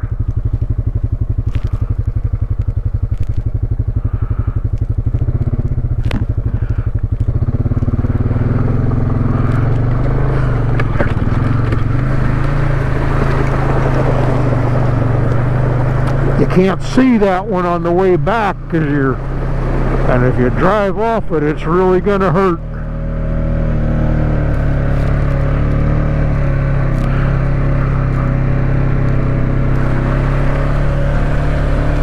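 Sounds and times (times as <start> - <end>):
atv engine puttering: 0.0 - 32.0.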